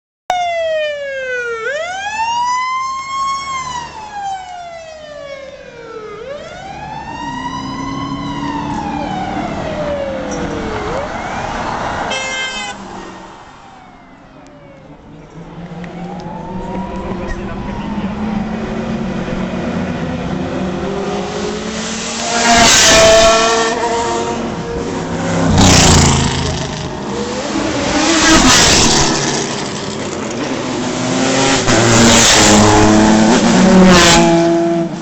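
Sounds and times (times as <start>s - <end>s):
emergency vehicle siren wailing: 0.3s - 28.5s
vehicle engines rumbling: 1.3s - 35.0s.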